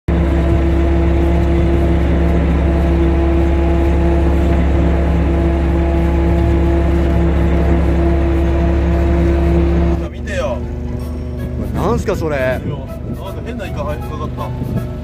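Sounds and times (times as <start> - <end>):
boat engine droning: 0.0 - 15.0
net hauler humming: 0.1 - 15.0.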